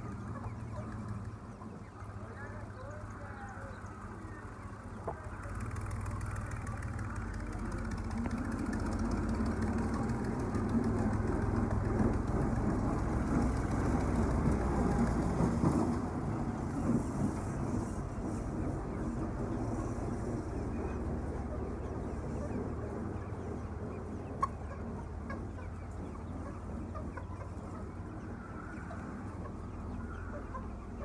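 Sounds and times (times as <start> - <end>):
engine running: 0.0 - 28.4.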